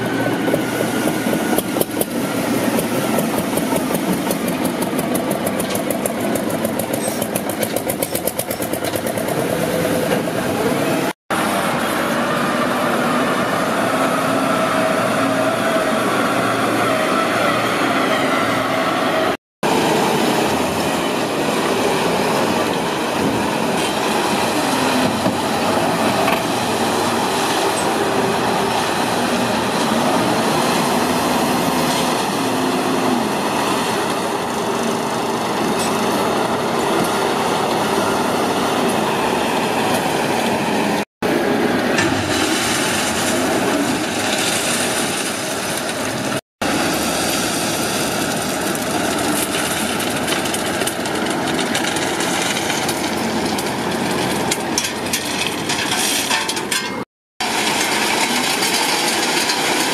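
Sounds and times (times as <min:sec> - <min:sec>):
diesel engine and hydraulics whining: 0:00.0 - 0:59.9.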